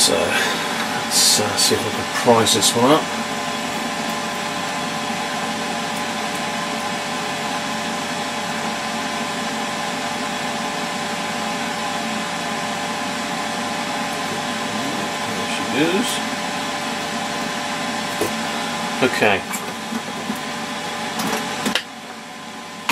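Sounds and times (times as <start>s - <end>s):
vacuum pump humming: 0.0s - 22.9s.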